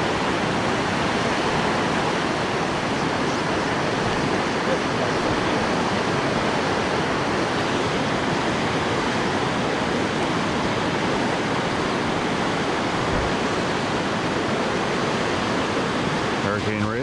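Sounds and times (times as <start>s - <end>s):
rushing river and waterfall: 0.0s - 17.0s.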